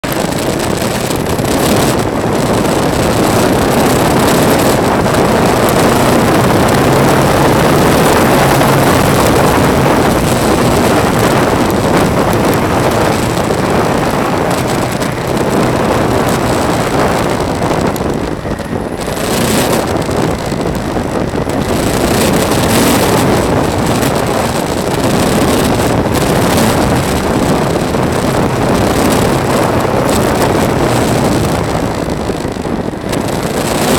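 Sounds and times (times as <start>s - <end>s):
vehicle engine: 0.0s - 33.9s
wind buffeting microphone: 0.0s - 33.9s
tyres on loose gravel: 0.1s - 33.9s.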